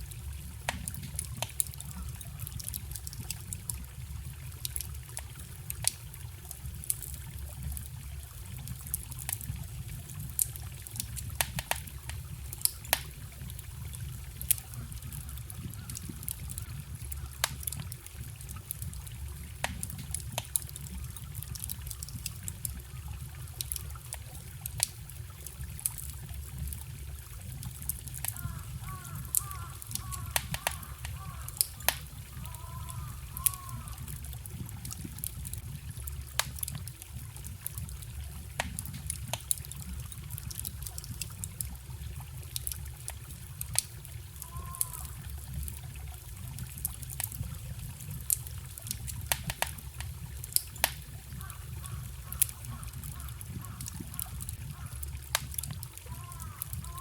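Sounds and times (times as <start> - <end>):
small stream rushing: 0.0 - 57.0
wood fire crackling and popping: 0.0 - 57.0.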